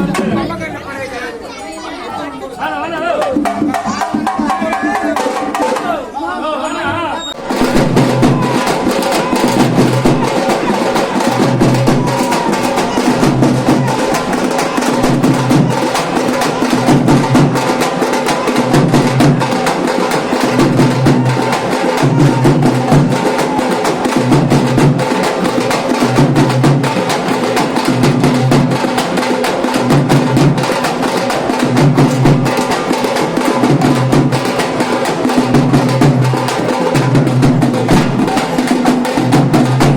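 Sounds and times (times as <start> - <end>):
fast drumming music: 3.0 - 6.0, 7.4 - 39.9
heavy low drum beat: 7.4 - 39.9.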